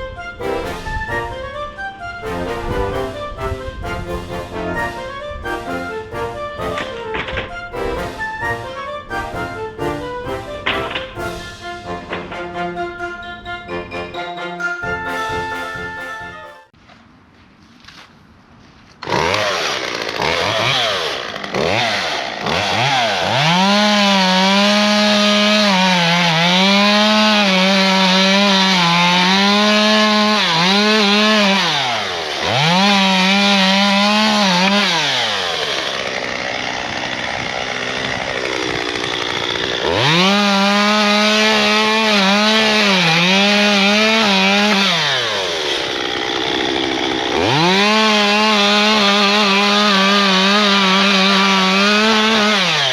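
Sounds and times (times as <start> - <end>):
chainsaw cutting wood: 3.9 - 12.8, 19.0 - 52.9.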